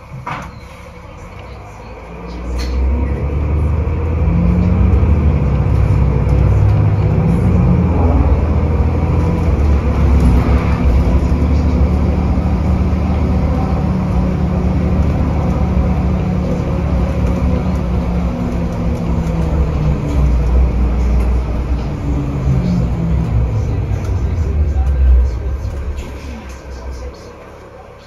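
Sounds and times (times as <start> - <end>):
bus diesel engine drone: 0.0 - 28.0
road noise: 0.0 - 28.0.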